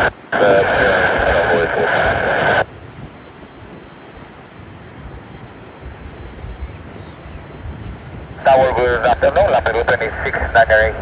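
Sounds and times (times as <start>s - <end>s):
distant jet rumble: 0.0s - 11.0s
hissy air traffic control radio: 0.0s - 11.0s.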